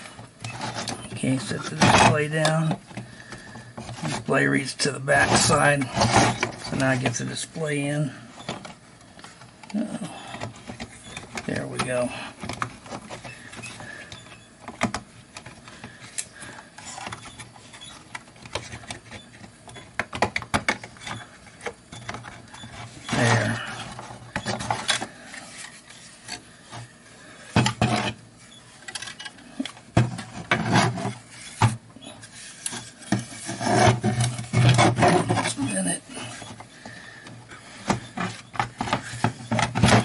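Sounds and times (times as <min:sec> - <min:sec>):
parts rubbing and scraping: 0:00.0 - 0:40.0.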